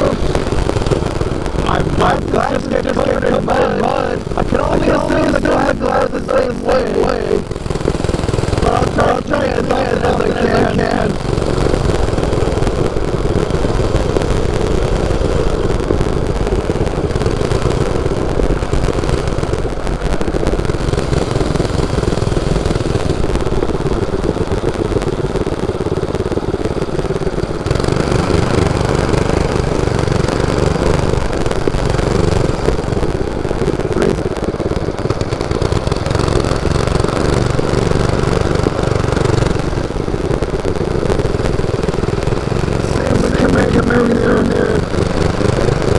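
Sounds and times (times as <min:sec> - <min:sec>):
mini bike engine running: 0:00.0 - 0:45.9.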